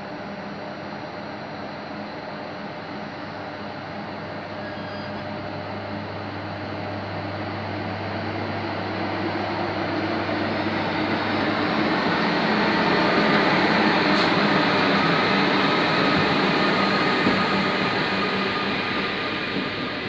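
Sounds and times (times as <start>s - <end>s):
electric train approaching: 0.0s - 20.0s.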